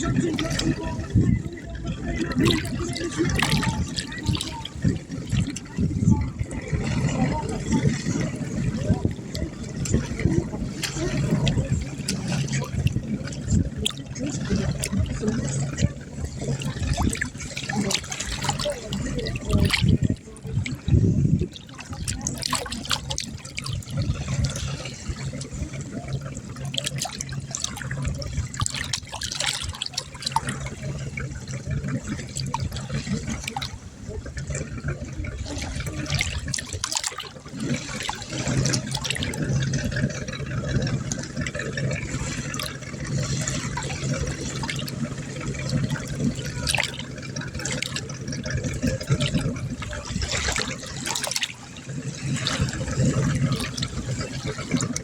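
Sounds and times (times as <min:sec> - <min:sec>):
water splashing and lapping: 0:00.0 - 0:55.0.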